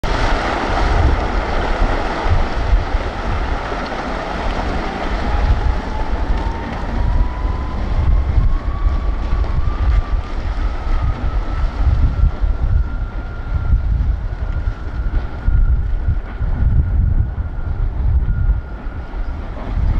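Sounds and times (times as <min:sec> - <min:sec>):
thin rising whine: 0:00.0 - 0:19.9
wind buffeting microphone: 0:00.0 - 0:19.9.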